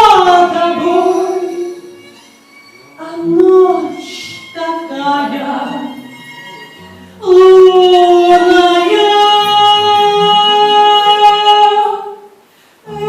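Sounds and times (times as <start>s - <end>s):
woman singing long notes: 0.0s - 2.0s, 3.0s - 5.9s, 7.2s - 13.0s.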